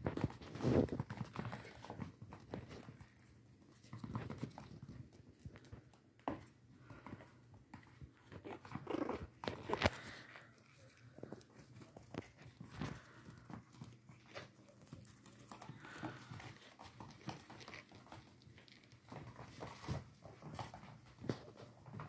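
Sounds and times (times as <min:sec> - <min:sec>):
claws clicking on floor: 0:00.0 - 0:22.0
soft scuffling: 0:00.0 - 0:22.0.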